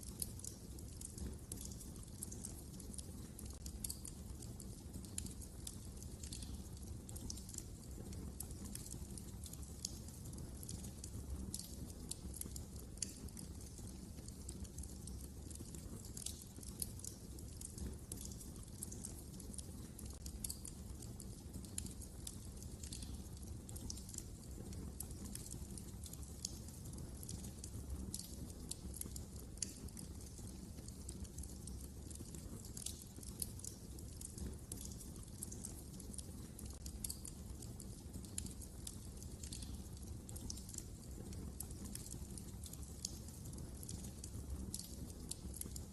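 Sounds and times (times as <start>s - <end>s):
low rumble of flame: 0.0s - 45.9s
wood fire crackling: 0.0s - 45.9s.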